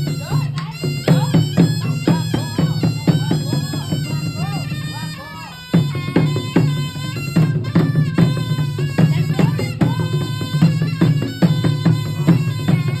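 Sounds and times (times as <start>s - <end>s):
hand drums: 0.0s - 13.0s
reedy wind instrument melody: 0.0s - 13.0s.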